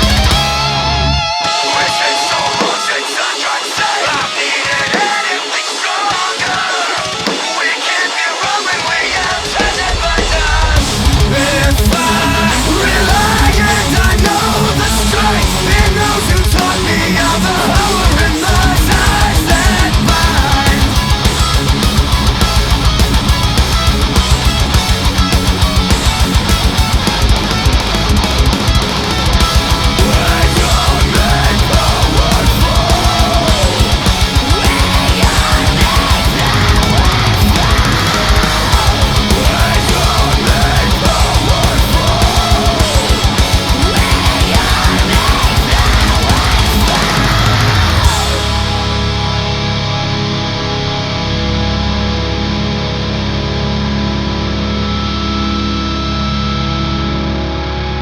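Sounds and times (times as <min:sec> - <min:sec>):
fast dense drumming: 0:00.0 - 0:00.7, 0:02.0 - 0:49.2
distorted electric guitar: 0:00.0 - 0:58.0.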